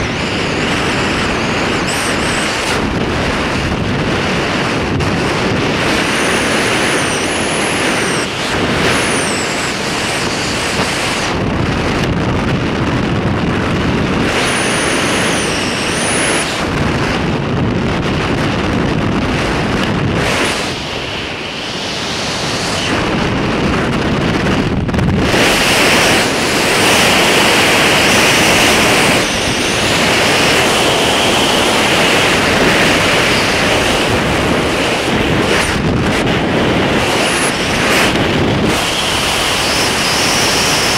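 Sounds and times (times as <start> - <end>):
wind roaring over microphone: 0.0 - 40.9.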